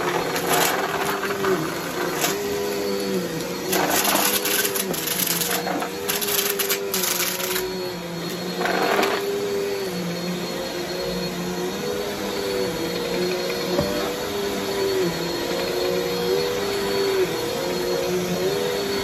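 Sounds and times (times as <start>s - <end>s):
vacuum cleaner running on carpet: 0.0s - 19.0s.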